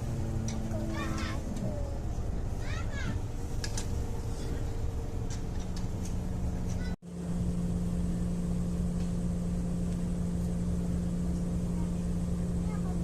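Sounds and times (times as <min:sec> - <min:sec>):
steady low hum: 0:00.0 - 0:13.0
train rumbling: 0:00.0 - 0:13.0.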